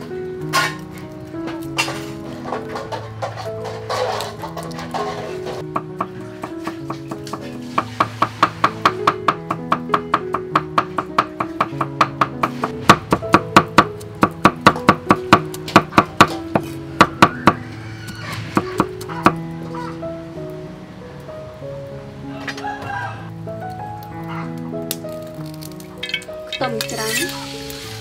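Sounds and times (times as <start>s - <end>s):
background music: 0.0s - 28.0s.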